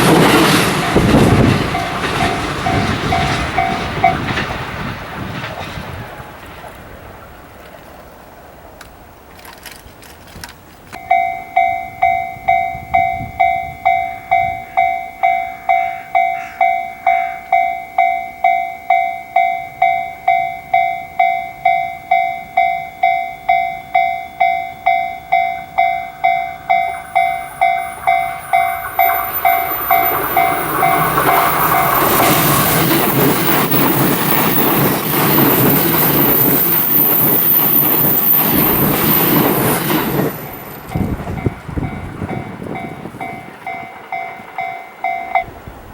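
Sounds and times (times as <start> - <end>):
level-crossing warning bell: 0.0 - 5.4, 10.9 - 45.8
train passing at speed: 0.0 - 9.5, 10.4 - 45.9.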